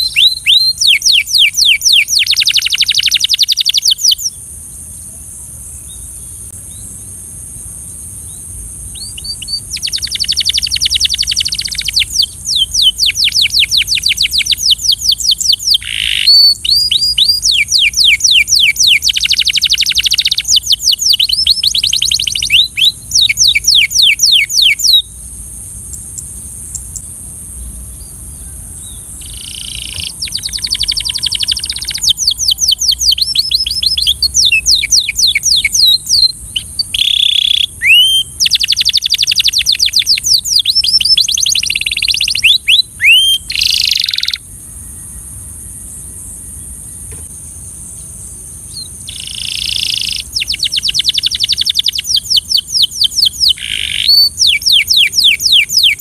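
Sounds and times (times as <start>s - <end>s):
canary singing trills: 0.0s - 4.4s, 8.2s - 45.0s, 48.0s - 56.0s
steady high hiss: 0.0s - 56.0s.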